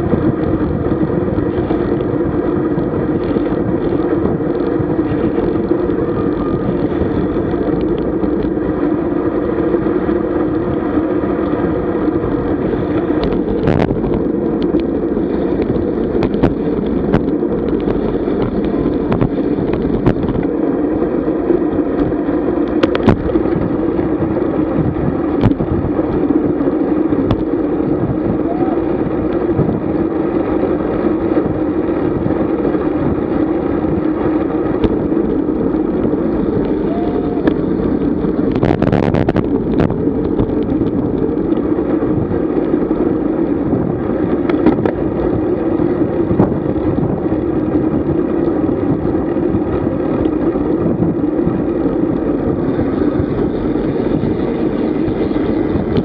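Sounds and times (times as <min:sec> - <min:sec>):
bicycle tyres on road: 0:00.0 - 0:56.0
muffled wind rush: 0:00.0 - 0:56.0.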